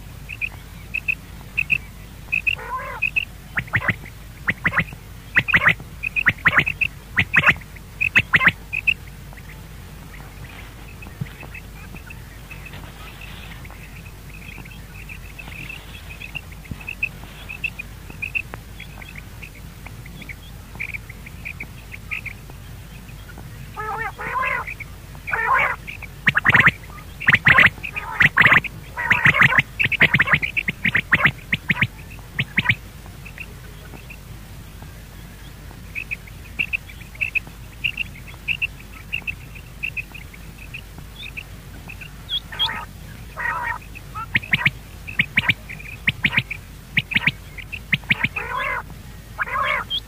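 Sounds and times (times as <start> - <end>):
harsh bird calls: 0.0 - 34.2, 35.1 - 50.0.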